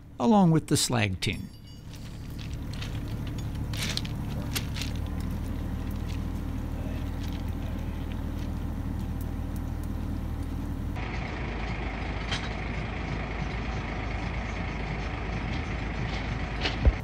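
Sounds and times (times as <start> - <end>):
engine idling: 1.5 - 17.0.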